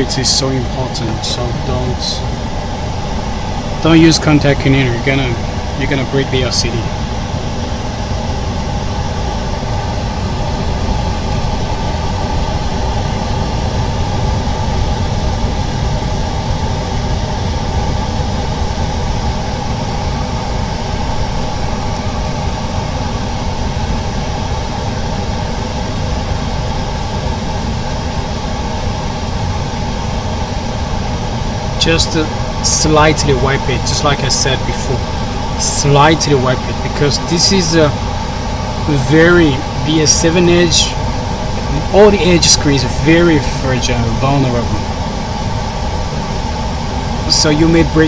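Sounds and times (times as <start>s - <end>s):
low rumble: 0.0s - 48.0s
machine hum with tones: 0.0s - 48.0s.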